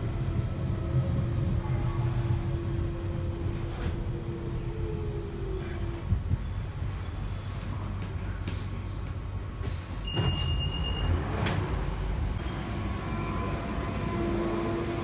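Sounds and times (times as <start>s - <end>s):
train rumbling through tunnel: 0.0s - 15.0s.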